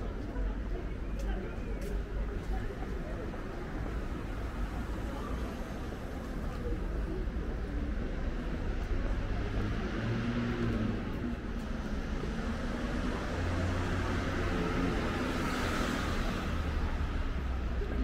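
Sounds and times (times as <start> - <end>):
low rumble of traffic engines: 0.0 - 18.0.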